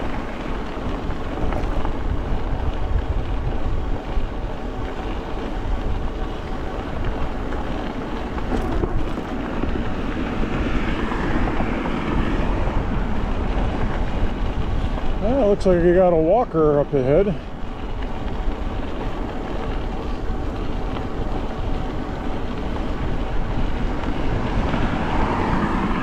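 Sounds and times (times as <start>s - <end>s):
bike tyres rolling on trail: 0.0s - 26.0s
wind rush on microphone: 0.0s - 26.0s.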